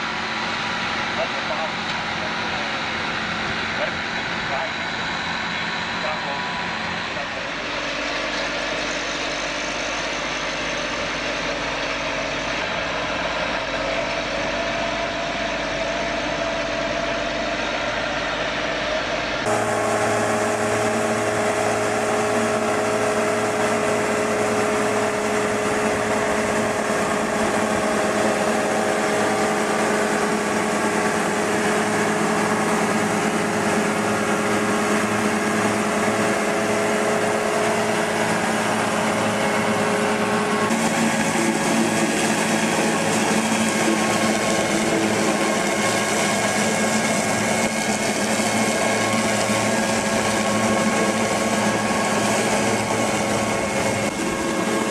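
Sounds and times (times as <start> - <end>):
machinery running with high whine: 0.0 - 54.9.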